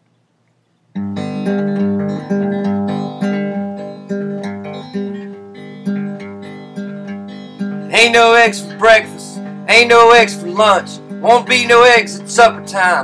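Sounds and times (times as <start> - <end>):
acoustic guitar strumming: 1.0 - 13.0.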